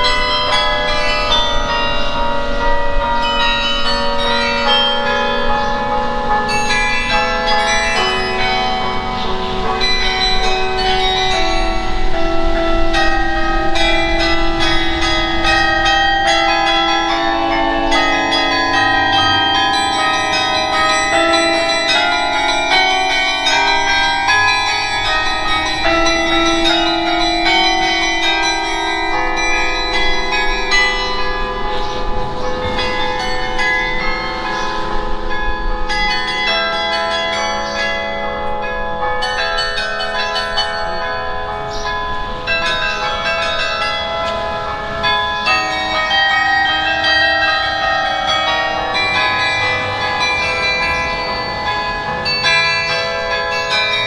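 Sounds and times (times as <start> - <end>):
carillon bells playing a tune: 0.0 - 54.0.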